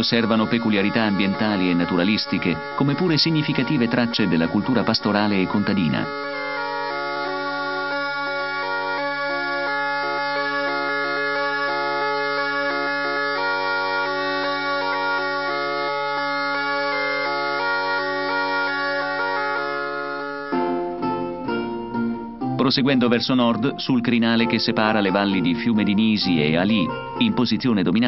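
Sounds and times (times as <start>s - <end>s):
bagpipe drone: 0.0s - 22.6s, 24.2s - 28.0s
bagpipe melody: 0.0s - 28.0s.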